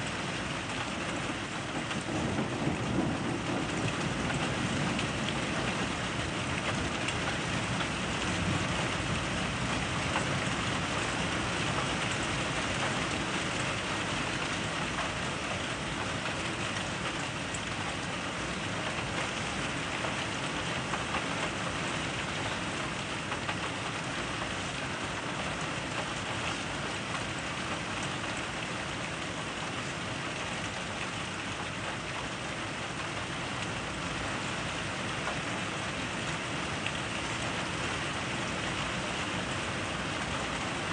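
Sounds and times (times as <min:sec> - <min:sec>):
steady rain through a window: 0:00.0 - 0:40.9.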